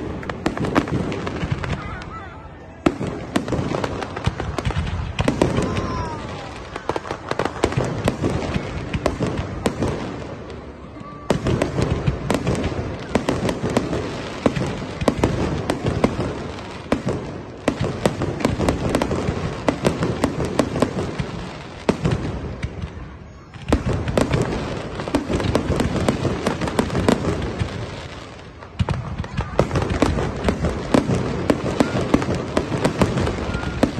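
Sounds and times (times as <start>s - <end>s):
fireworks bangs and crackling: 0.0s - 33.9s.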